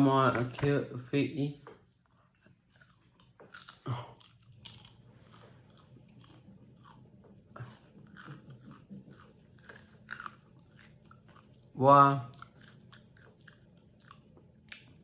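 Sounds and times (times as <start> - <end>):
person chewing popcorn: 1.6 - 15.0.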